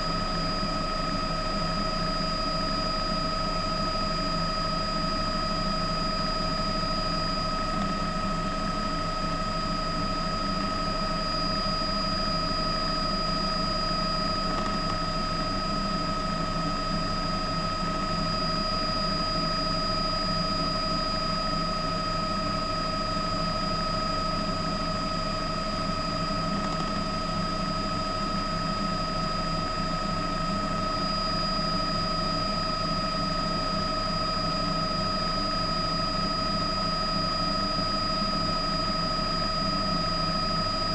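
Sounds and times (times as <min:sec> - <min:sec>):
helicopter drone: 0:00.0 - 0:40.9
helicopter high whine: 0:00.0 - 0:40.9.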